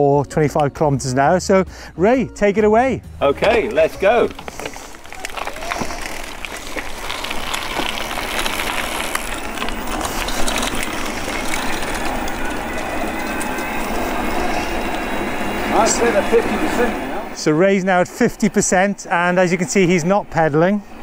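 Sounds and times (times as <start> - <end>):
bicycle tyres rolling on rough lane: 3.2 - 21.0.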